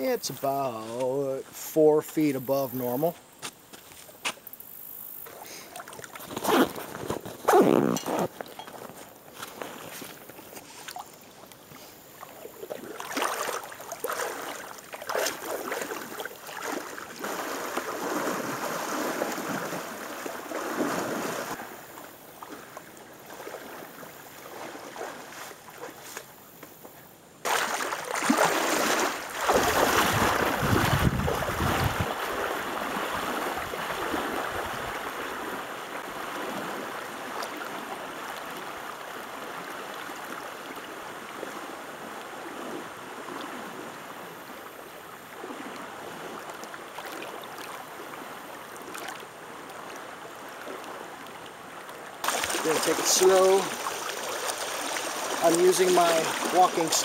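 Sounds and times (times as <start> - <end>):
feet wading and splashing in river: 0.2 - 57.0
shallow water rushing over rocks: 5.5 - 21.9, 27.4 - 57.0.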